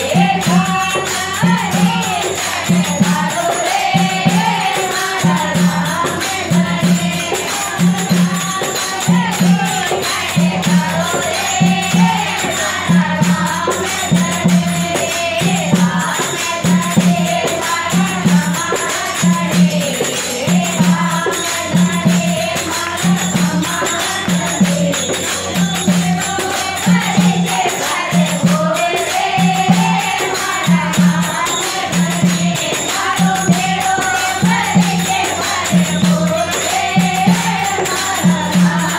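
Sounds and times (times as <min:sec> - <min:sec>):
hand drum beat: 0:00.0 - 0:38.9
jingling hand percussion: 0:00.0 - 0:38.9
women singing in unison: 0:00.0 - 0:38.9.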